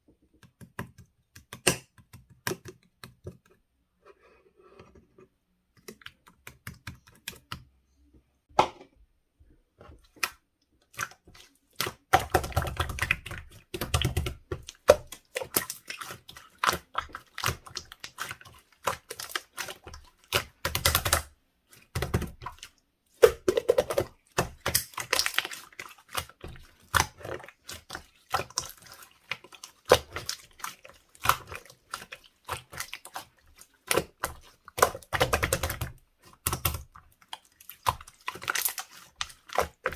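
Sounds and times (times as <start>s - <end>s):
slime squishing with sticky clicks: 0.4s - 3.4s, 10.0s - 39.9s.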